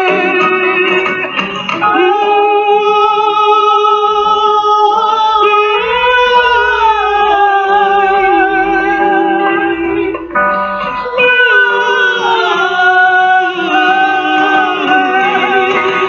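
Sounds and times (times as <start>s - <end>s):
instrumental accompaniment: 0.0s - 16.0s
woman singing fado: 0.0s - 16.0s.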